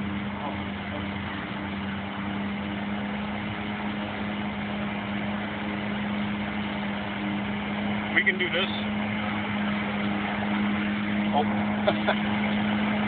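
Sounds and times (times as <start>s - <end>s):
robotic lawnmower humming: 0.0s - 13.0s.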